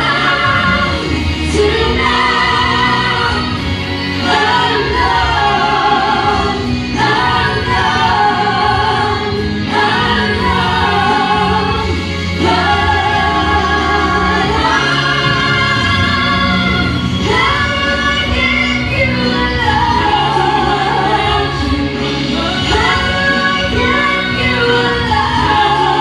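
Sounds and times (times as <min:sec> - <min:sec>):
group singing into microphones: 0:00.0 - 0:26.0
musical accompaniment: 0:00.0 - 0:26.0.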